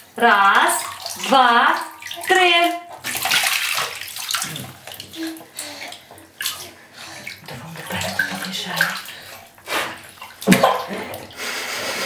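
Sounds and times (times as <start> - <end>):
water splashing in a bath: 0.0 - 12.0.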